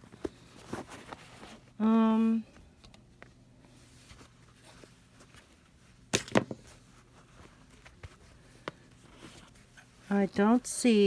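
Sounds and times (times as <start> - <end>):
hands handling fabric shoe: 0.0 - 11.0.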